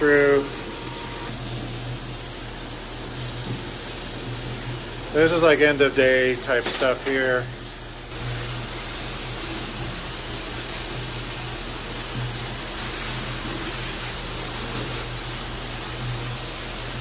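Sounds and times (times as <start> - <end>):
liquid jet hissing and splashing: 0.0 - 17.0
low machine hum: 0.0 - 17.0.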